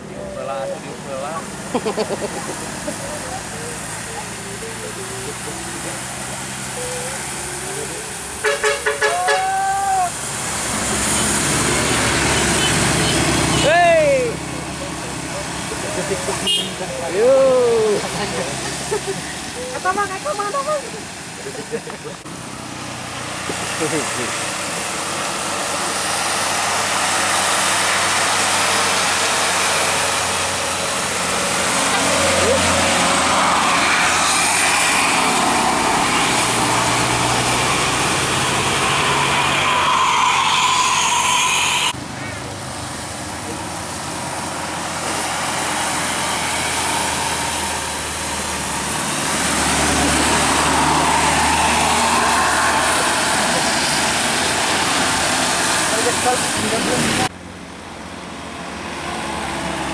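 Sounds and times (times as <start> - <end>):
vehicle engine humming: 0.0 - 59.9
rain and wet road hiss: 0.4 - 57.3.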